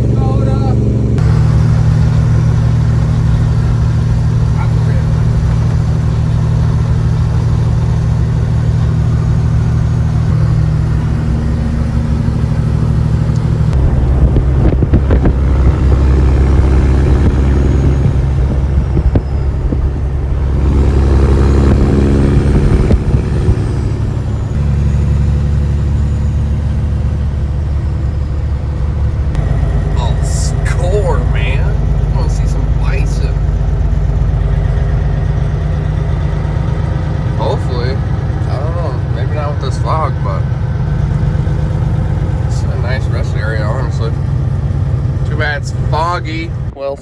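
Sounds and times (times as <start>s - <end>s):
diesel truck engine droning: 0.0s - 47.0s.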